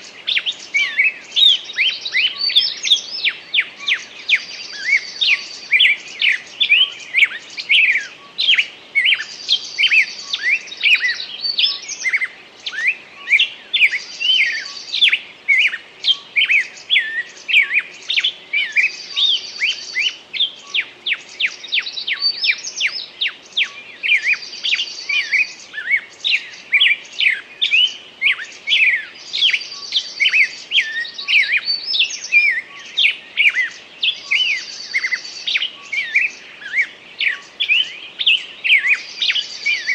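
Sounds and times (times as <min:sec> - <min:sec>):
songbirds chirping chorus: 0:00.0 - 0:39.9.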